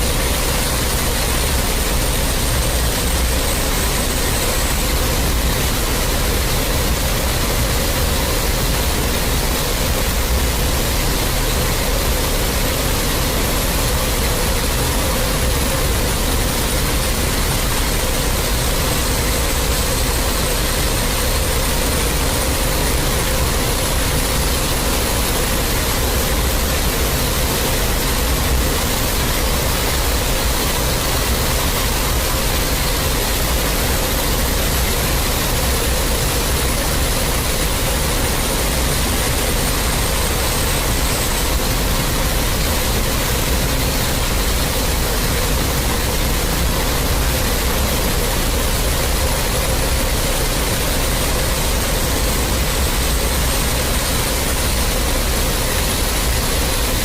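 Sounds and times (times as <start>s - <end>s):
static-like rushing noise: 0.0s - 57.0s.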